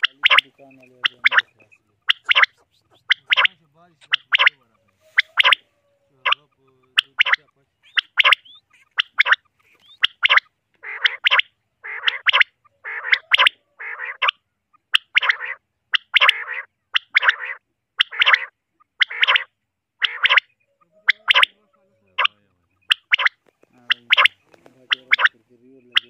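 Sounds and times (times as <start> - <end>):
quail calling: 0.0 - 26.0.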